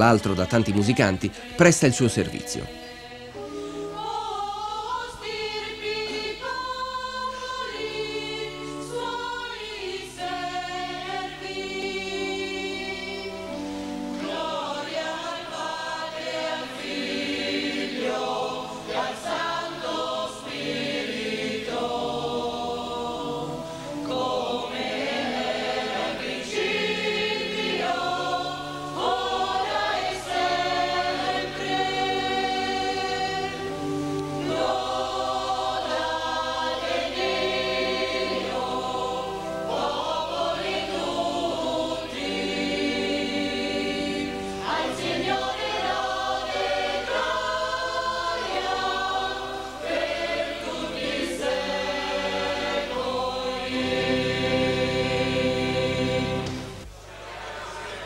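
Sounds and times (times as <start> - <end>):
choir singing sacred music: 0.0 - 58.0.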